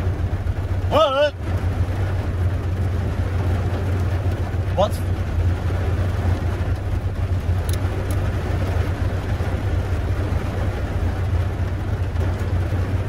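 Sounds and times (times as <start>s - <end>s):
car engine drone from cabin: 0.0s - 13.0s.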